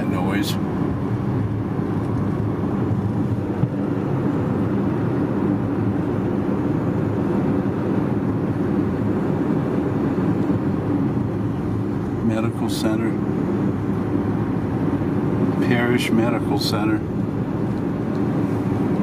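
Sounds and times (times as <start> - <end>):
low droning vehicle noise: 0.0 - 19.0.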